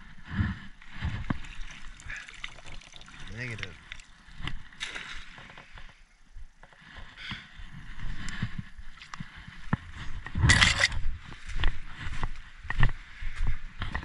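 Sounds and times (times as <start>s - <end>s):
footsteps in undergrowth: 0.0s - 14.0s.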